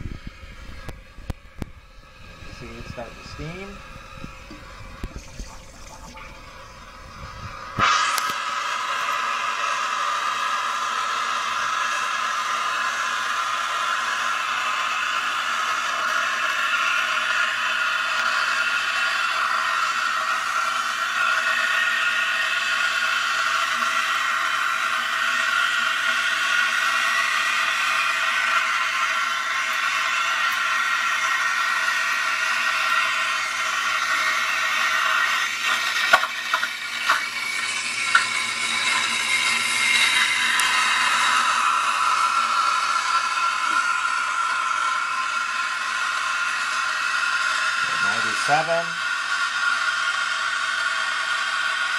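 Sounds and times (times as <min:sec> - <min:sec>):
steam wand hissing in milk: 0:00.0 - 0:51.9.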